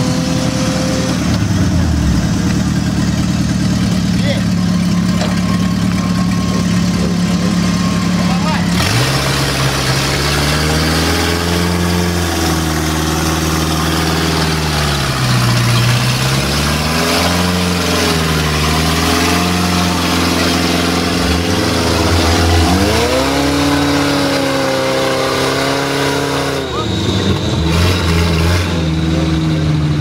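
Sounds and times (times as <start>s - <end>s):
car engine revving under load: 0.0s - 30.0s.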